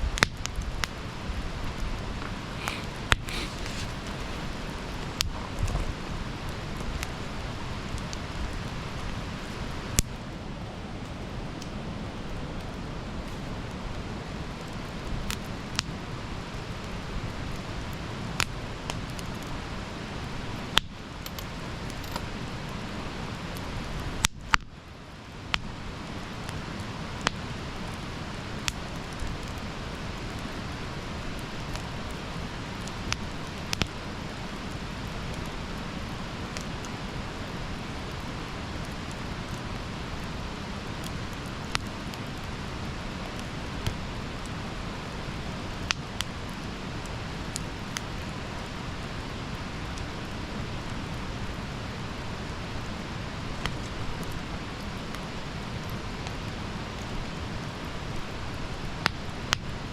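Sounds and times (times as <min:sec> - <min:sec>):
burning wood crackling: 0:00.0 - 0:59.9
campfire flames hissing: 0:00.0 - 0:59.9.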